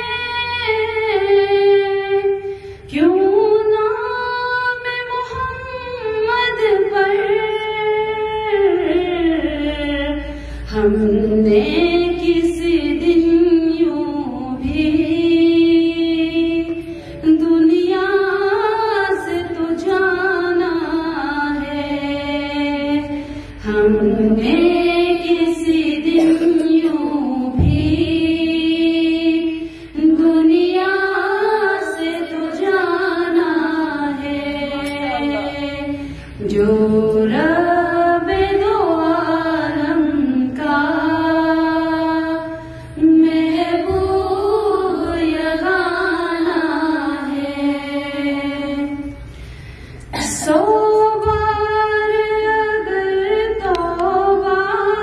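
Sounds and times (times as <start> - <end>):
woman singing unaccompanied: 0.0 - 49.2, 50.2 - 55.0.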